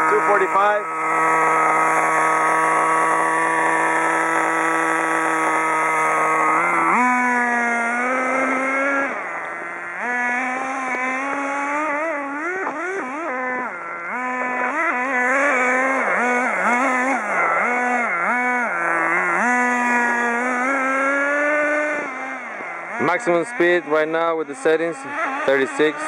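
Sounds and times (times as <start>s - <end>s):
small model engine revving: 0.0s - 26.0s.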